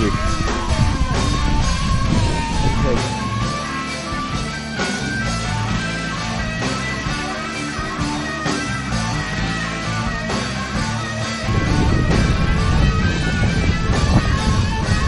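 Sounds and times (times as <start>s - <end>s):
guitar music with beat: 0.0s - 15.0s.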